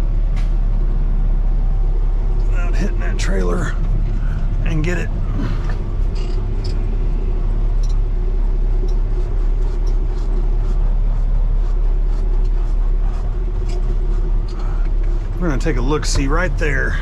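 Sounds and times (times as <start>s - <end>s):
diesel truck engine droning: 0.0s - 17.0s
tyres creeping on gravel: 1.7s - 17.0s.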